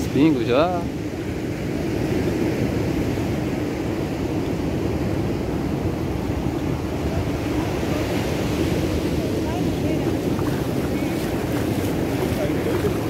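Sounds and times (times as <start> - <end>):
sea surf: 0.0 - 13.0
wind rumble on microphone: 0.9 - 13.0.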